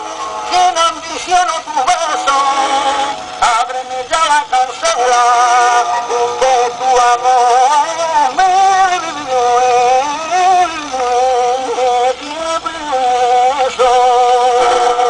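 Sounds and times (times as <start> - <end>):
man singing with vibrato: 0.0 - 15.0
musical accompaniment: 0.0 - 15.0.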